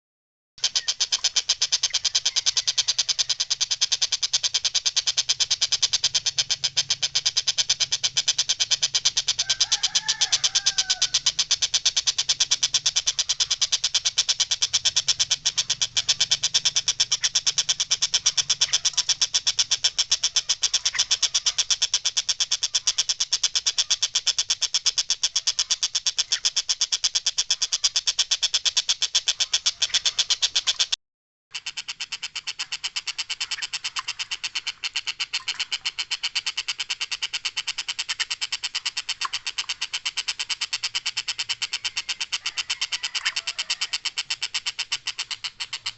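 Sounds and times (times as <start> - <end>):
kingfisher chattering call: 0.6 - 45.9.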